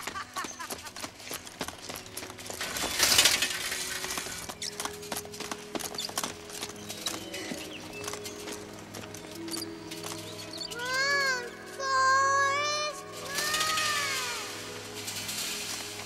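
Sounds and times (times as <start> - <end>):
faint music: 0.0 - 16.0
rapid metallic rattling: 0.6 - 11.8, 13.1 - 16.0.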